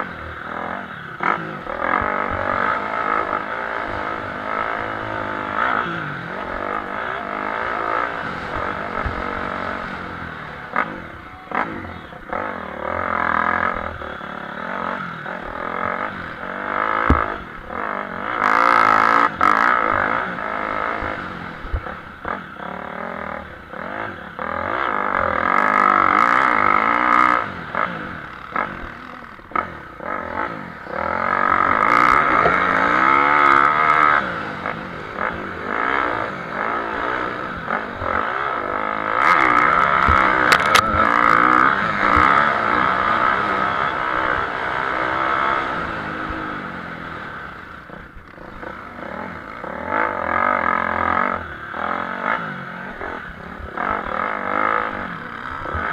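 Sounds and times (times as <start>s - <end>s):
motocross motorcycles revving: 0.0s - 55.9s.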